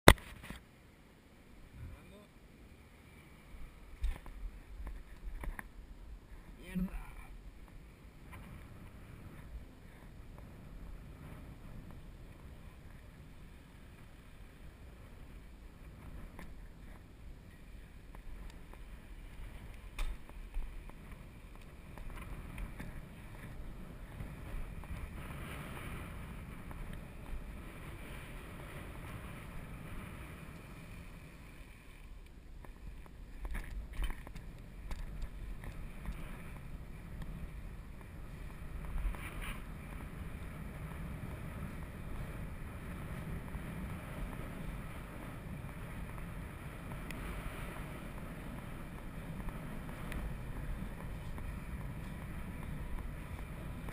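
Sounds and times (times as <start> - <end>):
bicycle tyres rumbling on asphalt: 2.6 - 53.9
wind on microphone: 3.5 - 53.9.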